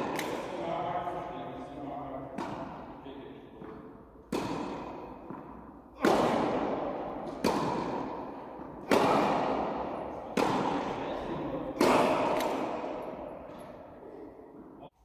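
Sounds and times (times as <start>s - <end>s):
tennis ball hit by rackets: 0.0s - 0.6s, 2.2s - 14.8s.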